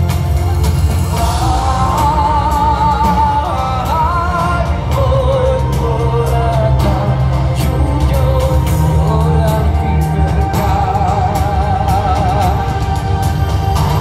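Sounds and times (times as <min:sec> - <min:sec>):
lead vocal with vibrato: 0:00.0 - 0:14.0
live rock band: 0:00.0 - 0:14.0.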